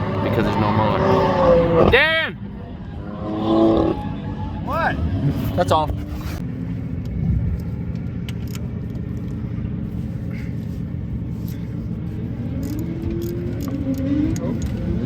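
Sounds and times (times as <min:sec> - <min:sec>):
car engine rumbling and revving: 0:00.0 - 0:15.0.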